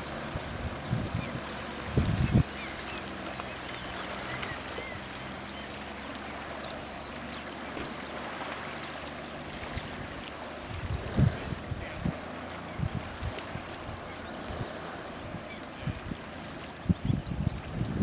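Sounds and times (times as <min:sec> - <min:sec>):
outboard motor running: 0:00.0 - 0:18.0
water lapping: 0:00.0 - 0:18.0.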